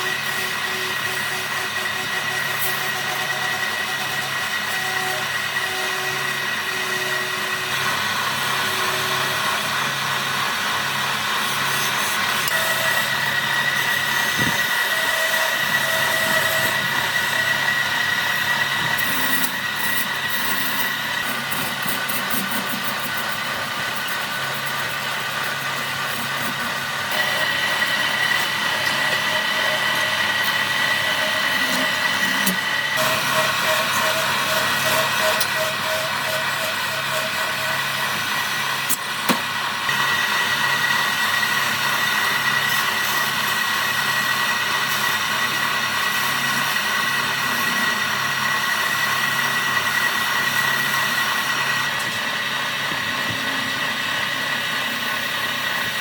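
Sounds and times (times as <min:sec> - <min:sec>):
power tool whining: 0:00.0 - 0:56.0.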